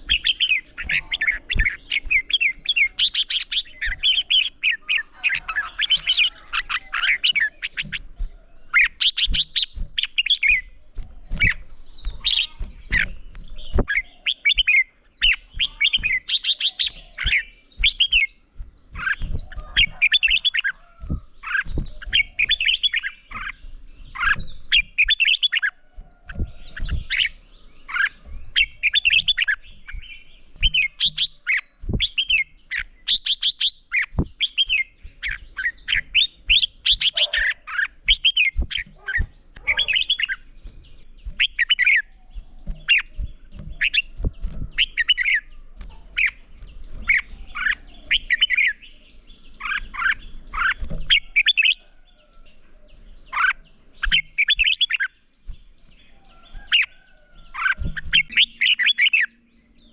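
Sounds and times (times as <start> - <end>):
bulbuls singing: 0.0 - 59.9.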